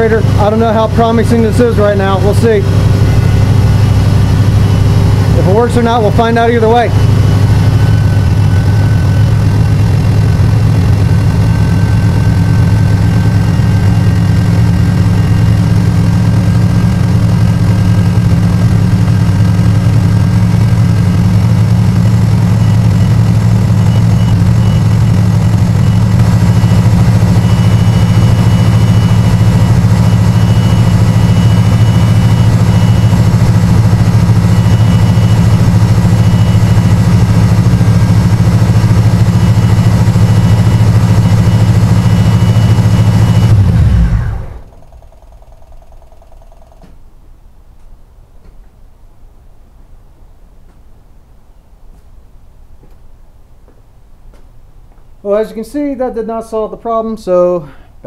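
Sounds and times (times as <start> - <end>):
sped up engine idling: 0.0 - 47.6.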